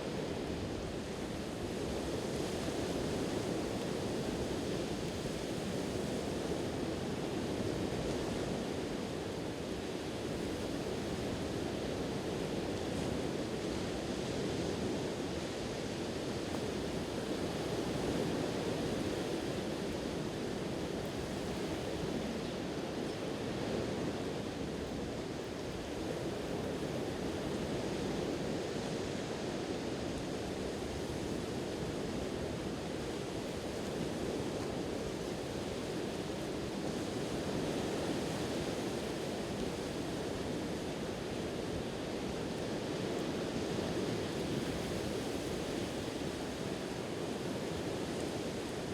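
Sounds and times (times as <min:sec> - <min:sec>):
sea waves washing on shore: 0:00.1 - 0:48.9.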